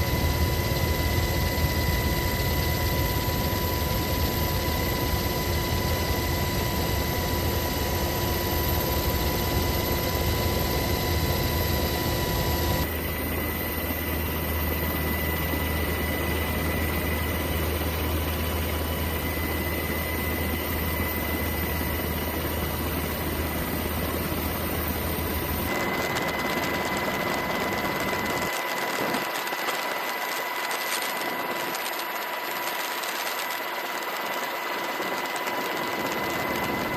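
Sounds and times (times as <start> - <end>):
high whine: 0.0 - 29.6.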